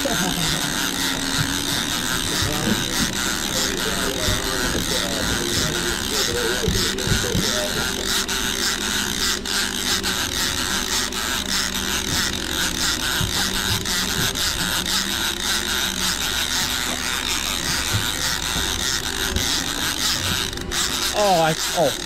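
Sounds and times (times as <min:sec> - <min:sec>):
fishing reel whirring and clicking: 0:00.0 - 0:22.0
steady rushing background: 0:00.0 - 0:22.0.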